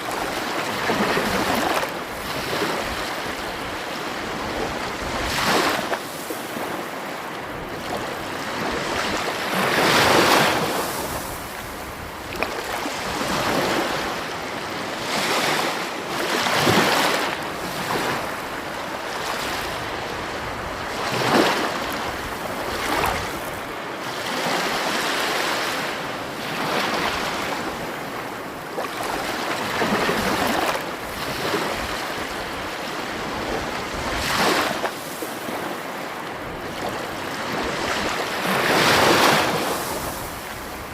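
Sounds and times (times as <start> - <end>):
sea waves washing on shore: 0.0 - 40.9.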